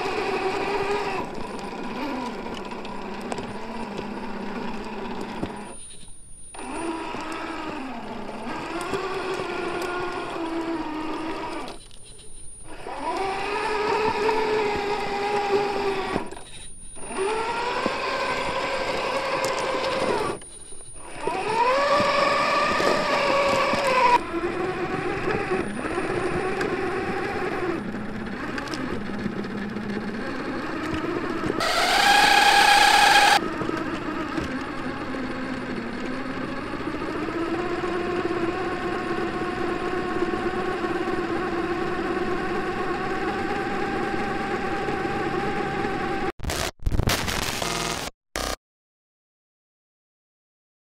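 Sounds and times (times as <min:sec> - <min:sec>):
toy car electric motors whining: 0:00.0 - 0:46.3.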